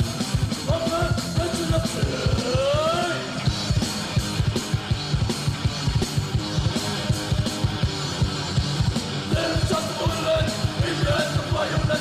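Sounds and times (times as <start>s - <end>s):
distorted electric guitars: 0.0s - 12.0s
fast driving drums: 0.0s - 12.0s.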